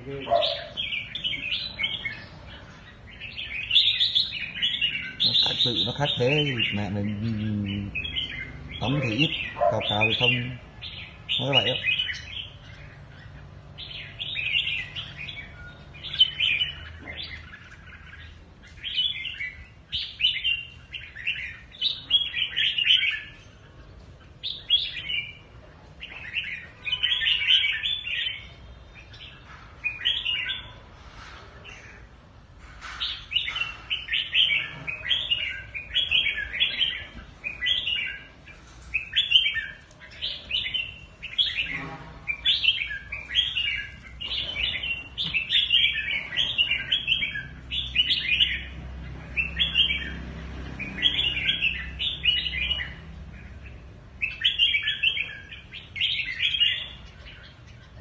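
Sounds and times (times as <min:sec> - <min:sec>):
bird chirping phrases: 0:00.0 - 0:58.0.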